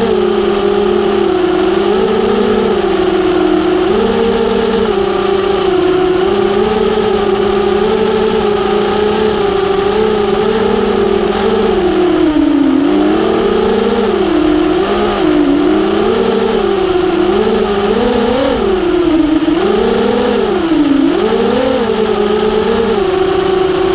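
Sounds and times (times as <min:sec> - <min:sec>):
quadcopter motors droning: 0:00.0 - 0:23.9.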